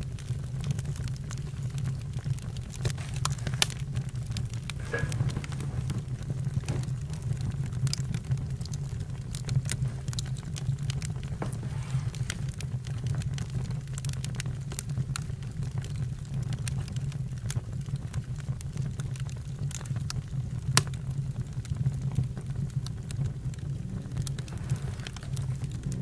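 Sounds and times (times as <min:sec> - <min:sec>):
campfire crackling: 0:00.0 - 0:26.0
sharp fire pops: 0:00.0 - 0:26.0.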